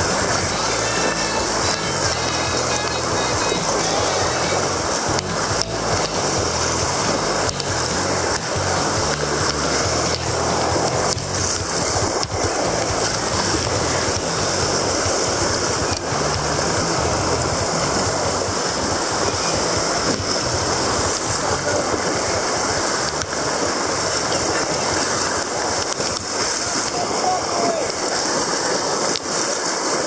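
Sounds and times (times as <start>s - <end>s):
low uneven rumble: 0.0s - 28.6s
white-water rapids rushing: 0.0s - 30.0s.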